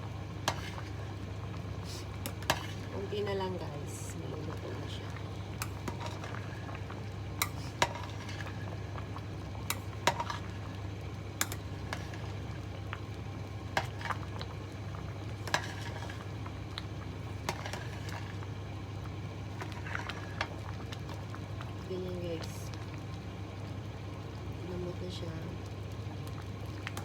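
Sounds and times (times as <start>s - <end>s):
pot simmering: 0.0s - 27.0s.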